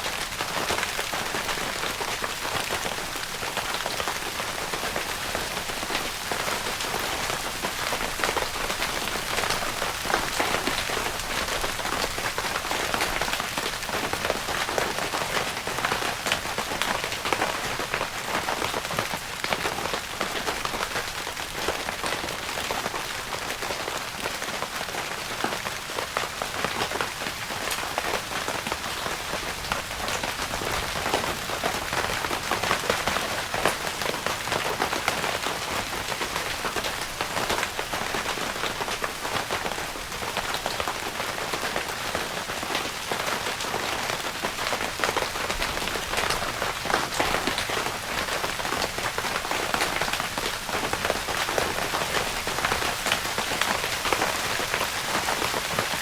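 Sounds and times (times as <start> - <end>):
rain pattering on tent fabric: 0.0 - 56.0.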